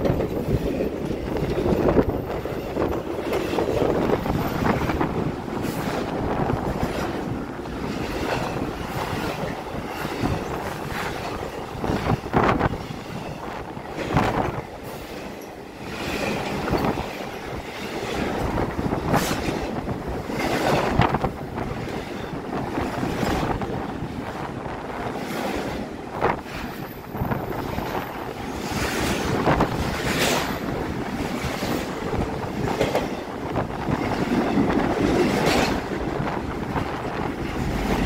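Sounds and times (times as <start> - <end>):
freight train wheels rumbling: 0.0 - 38.0
wind buffeting microphone: 0.0 - 38.0.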